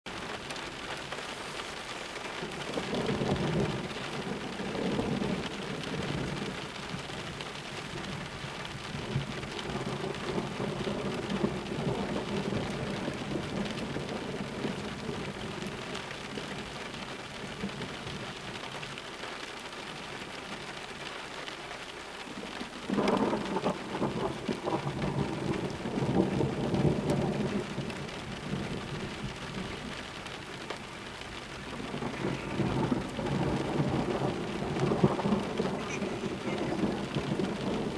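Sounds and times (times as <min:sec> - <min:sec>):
steady rain: 0:00.0 - 0:37.9
thunder rumbling: 0:02.4 - 0:18.3, 0:22.4 - 0:37.9.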